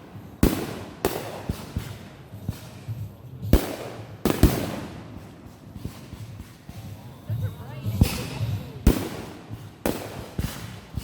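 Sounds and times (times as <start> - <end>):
small firework pops: 0.0 - 7.1, 7.8 - 11.0
fireworks banging: 0.0 - 11.0.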